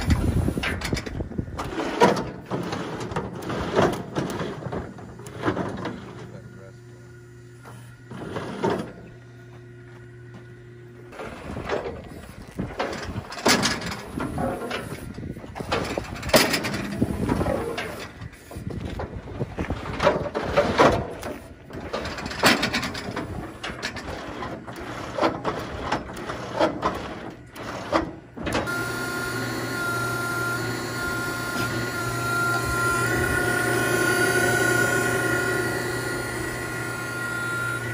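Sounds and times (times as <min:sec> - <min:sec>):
small engine running steadily: 0:00.0 - 0:37.9.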